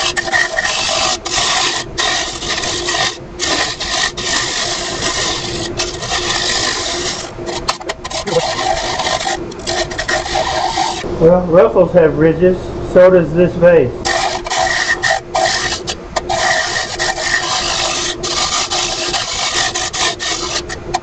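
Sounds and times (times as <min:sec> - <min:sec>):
wood being shaved on lathe: 0:00.0 - 0:11.1, 0:14.0 - 0:21.0
steady motor hum: 0:00.0 - 0:21.0.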